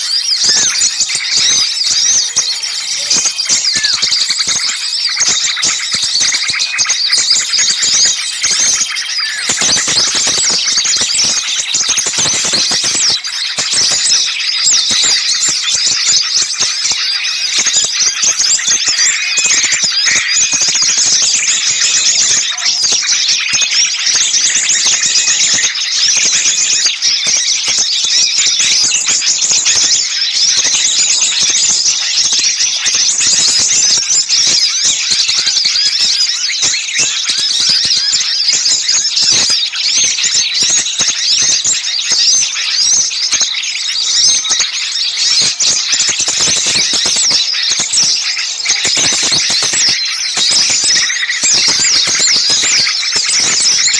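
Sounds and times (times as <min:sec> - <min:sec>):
chorus of small songbirds chirping: 0:00.0 - 0:53.9.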